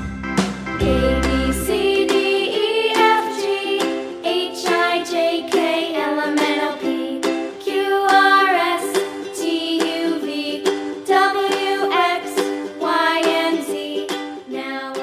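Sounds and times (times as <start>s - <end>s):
bright plucked-string tune: 0.0s - 15.0s.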